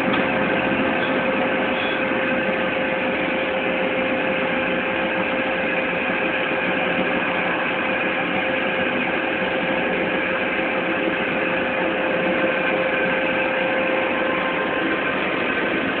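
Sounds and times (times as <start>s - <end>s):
machinery whirring and humming: 0.0s - 16.0s.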